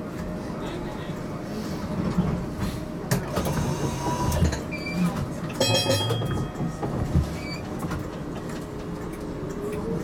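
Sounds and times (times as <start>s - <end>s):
low rumble inside a tram: 0.0s - 10.0s.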